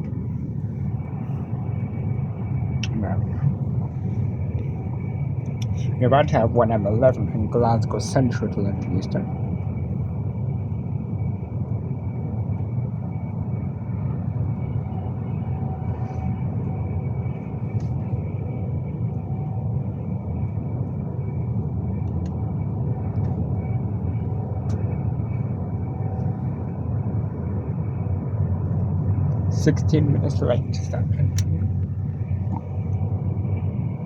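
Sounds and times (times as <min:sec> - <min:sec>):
electric train running rumble: 0:00.0 - 0:34.0
faint steady whines: 0:00.0 - 0:34.0.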